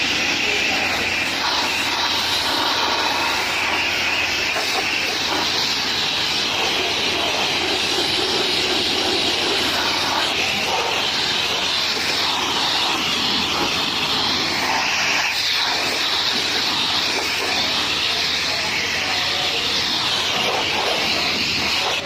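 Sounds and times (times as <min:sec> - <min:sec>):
pressure washer spraying water: 0:00.0 - 0:22.0.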